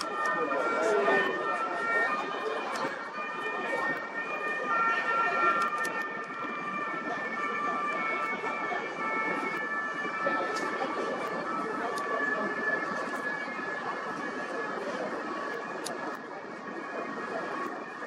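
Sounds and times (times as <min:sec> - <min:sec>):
chatter of many voices: 0:00.0 - 0:18.0
steady high-pitched tones: 0:00.0 - 0:18.0.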